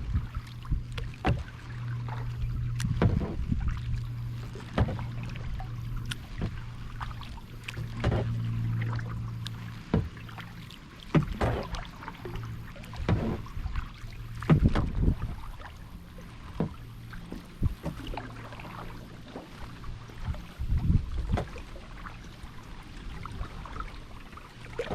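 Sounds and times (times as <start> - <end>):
paddle splashing in water: 0.0 - 24.9
steady low hum: 0.0 - 24.9.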